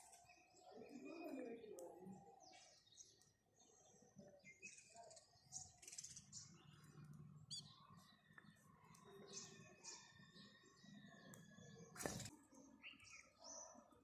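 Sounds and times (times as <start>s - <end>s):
sparrows chirping faintly: 0.0s - 14.0s.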